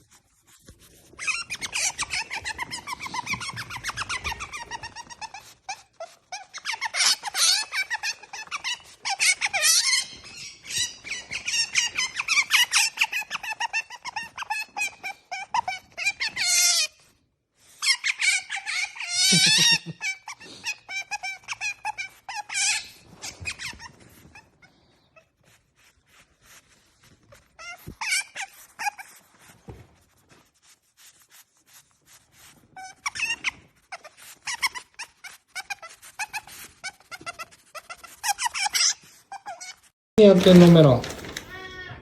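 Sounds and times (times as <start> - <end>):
otter squeaking and chirping: 0.8 - 17.2, 17.8 - 30.5, 31.9 - 42.0.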